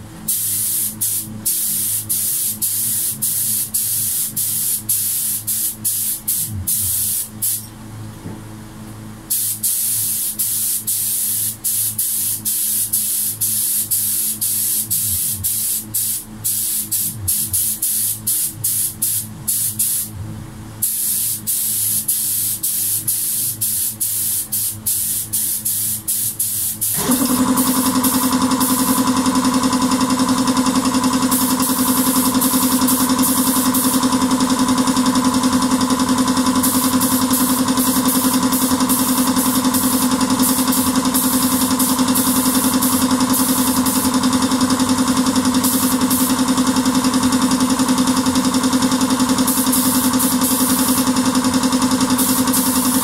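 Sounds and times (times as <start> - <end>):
loud steady motor hum: 0.0 - 9.3, 11.0 - 25.0, 26.0 - 53.0
spray gun hissing bursts: 0.3 - 7.7, 9.3 - 20.1, 20.8 - 34.4, 35.1 - 53.0.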